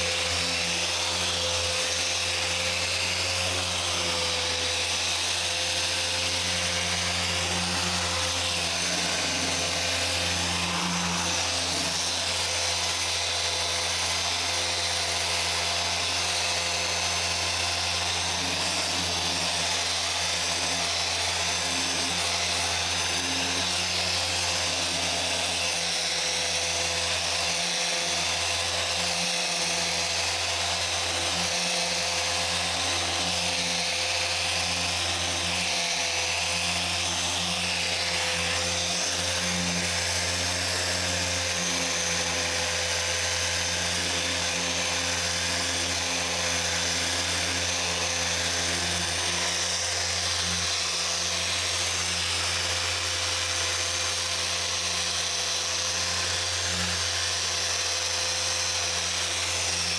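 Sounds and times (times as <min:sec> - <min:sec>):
machine polisher whirring: 0:00.0 - 0:59.9.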